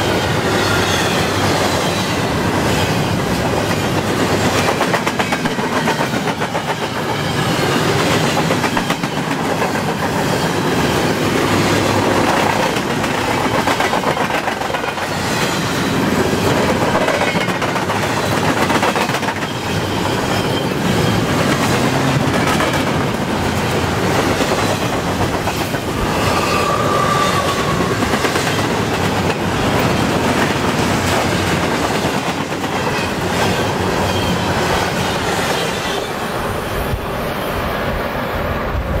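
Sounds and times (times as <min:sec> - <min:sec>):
freight train rumble: 0:00.0 - 0:39.0.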